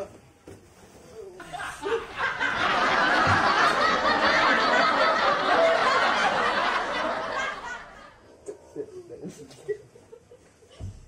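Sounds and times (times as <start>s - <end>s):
people snickering and laughing: 1.4s - 10.9s.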